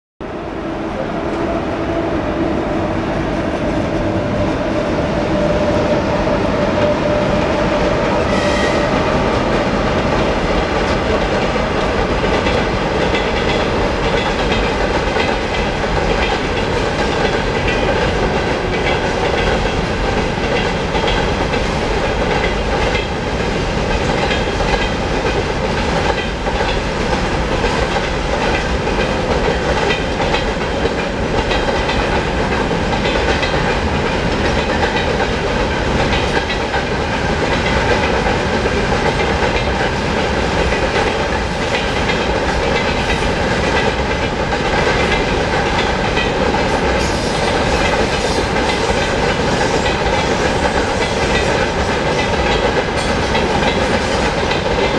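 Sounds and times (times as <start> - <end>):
train wheels rumbling on rails: 0.2 - 54.9
wheels clacking over rail joints: 9.4 - 54.9.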